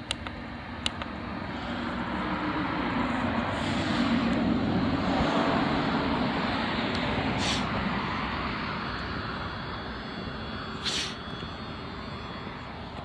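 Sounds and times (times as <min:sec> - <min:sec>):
rc car motor and tyres humming: 0:00.0 - 0:13.0.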